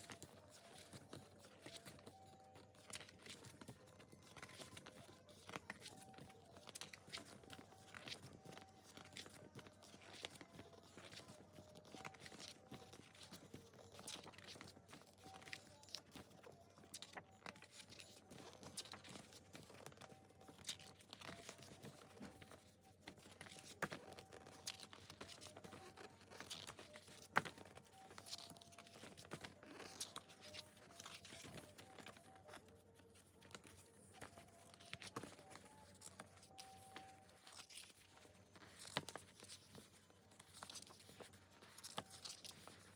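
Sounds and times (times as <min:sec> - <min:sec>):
paper and plastic rustling: 0:00.0 - 0:42.9.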